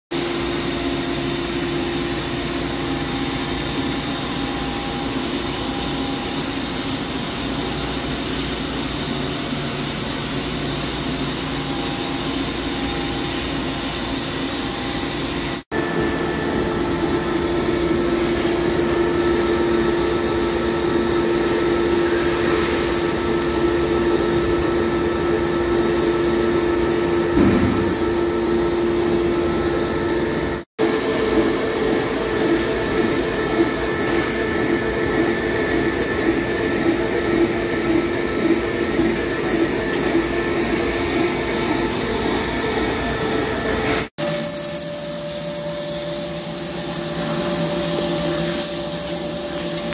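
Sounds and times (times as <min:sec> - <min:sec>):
lathe machine hum: 0:00.2 - 0:44.1.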